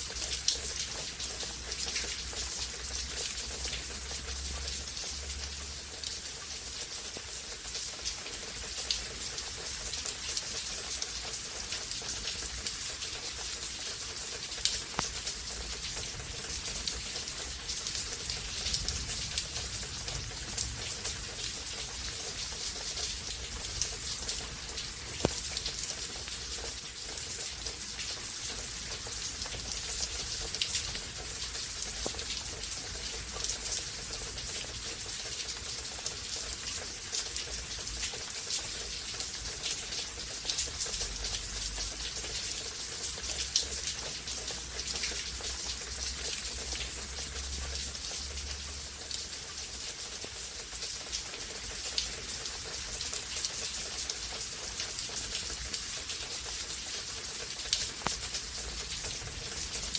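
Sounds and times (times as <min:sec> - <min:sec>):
raindrops hitting close by: 0:00.0 - 0:59.9
steady rain: 0:00.0 - 0:59.9.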